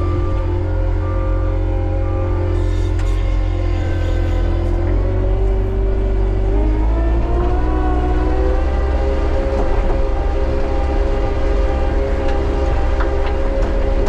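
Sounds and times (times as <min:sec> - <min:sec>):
diesel loader drone: 0:00.0 - 0:14.0
hydraulic whine: 0:00.0 - 0:14.0.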